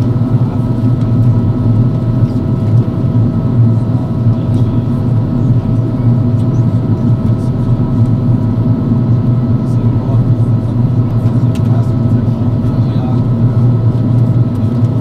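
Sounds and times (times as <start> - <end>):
low rumble of engines and airflow: 0.0 - 15.0.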